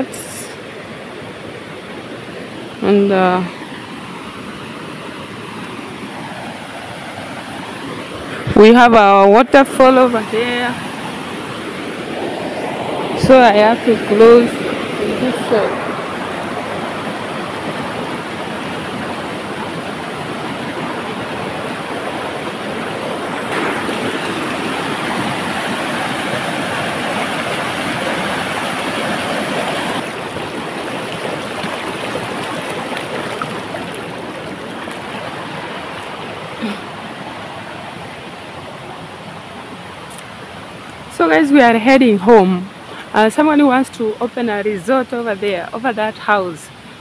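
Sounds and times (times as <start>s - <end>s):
water rushing over rocks: 0.0s - 47.0s.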